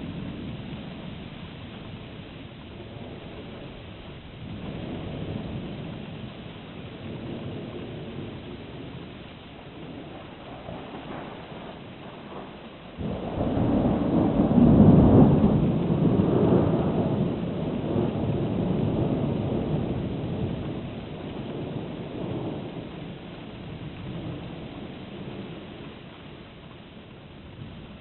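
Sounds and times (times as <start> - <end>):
low rumble of thunder: 0.0 - 28.0
thunderclap: 2.7 - 9.1, 9.7 - 26.0.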